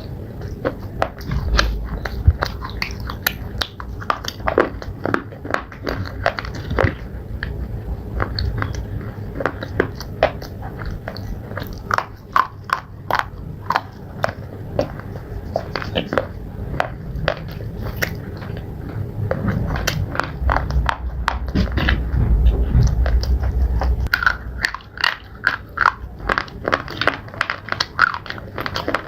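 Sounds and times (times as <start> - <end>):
crunching brittle slate: 0.0 - 29.0.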